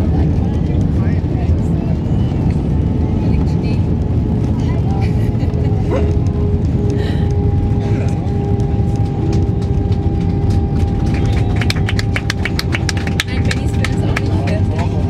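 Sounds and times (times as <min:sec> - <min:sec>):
aircraft cabin low rumble: 0:00.0 - 0:15.0
steady hum: 0:00.0 - 0:15.0.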